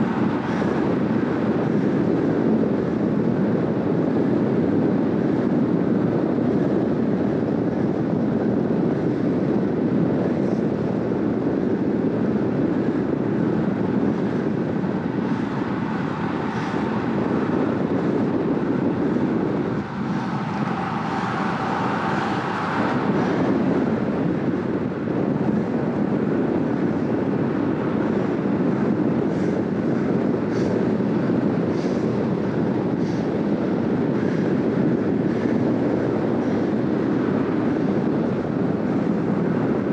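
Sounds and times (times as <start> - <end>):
bike tyres on asphalt: 0.0 - 39.9
wind rushing over microphone: 0.0 - 39.9.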